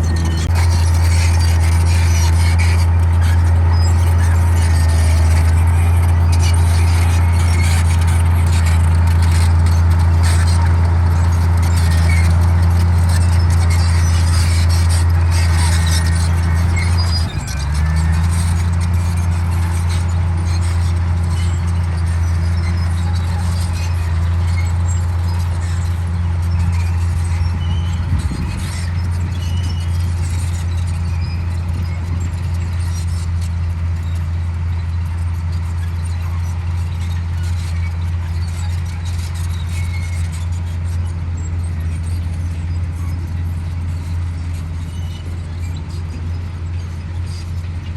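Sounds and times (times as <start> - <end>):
bulldozer diesel engine under load: 0.0 - 47.9.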